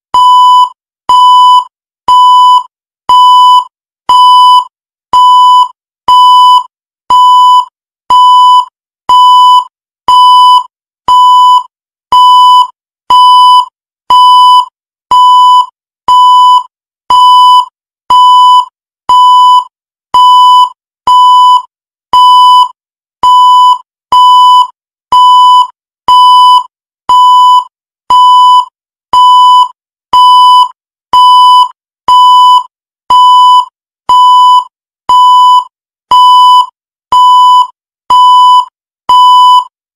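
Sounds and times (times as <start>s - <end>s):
countdown timer beeps: 0.2s - 21.6s, 22.2s - 39.7s.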